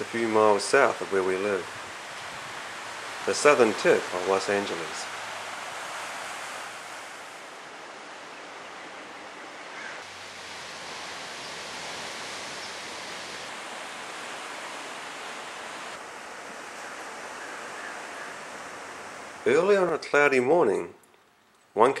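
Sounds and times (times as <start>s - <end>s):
ocean surf rushing: 0.0s - 20.4s.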